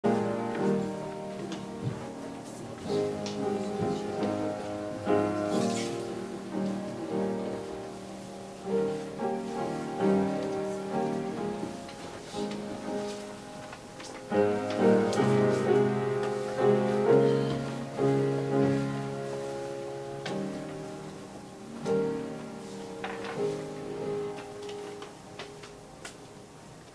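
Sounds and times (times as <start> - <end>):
piano playing slow chords: 0.0 - 26.9.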